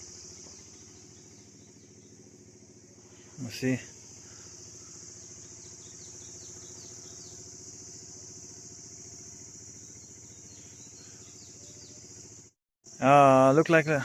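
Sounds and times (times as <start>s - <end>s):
low engine hum: 0.0s - 12.6s
crickets chirping: 0.0s - 14.0s.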